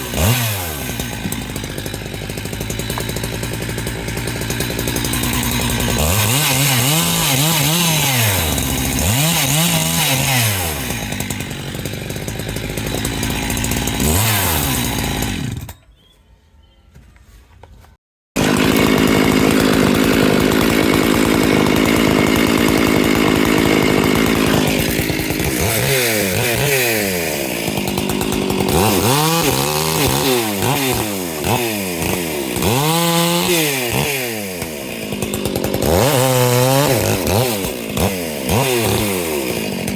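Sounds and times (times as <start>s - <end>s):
chainsaw revving and cutting wood: 0.0s - 15.8s, 18.4s - 39.9s.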